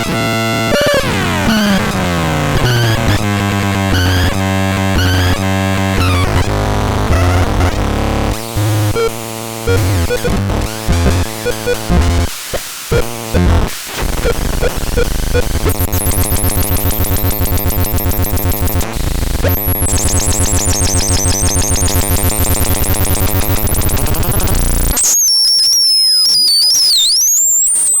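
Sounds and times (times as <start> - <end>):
buzzy pulsing synthesizer: 0.1 - 12.3, 12.9 - 28.0.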